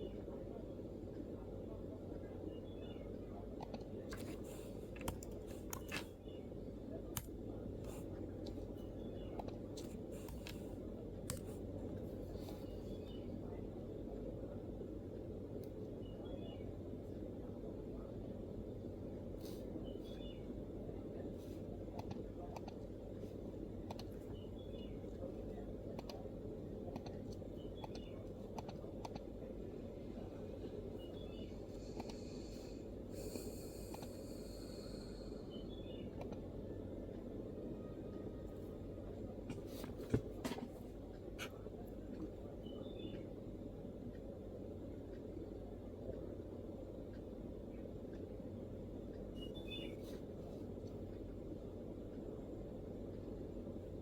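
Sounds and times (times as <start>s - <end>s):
low background hum: 0.0s - 54.0s
low background rumble: 0.0s - 54.0s.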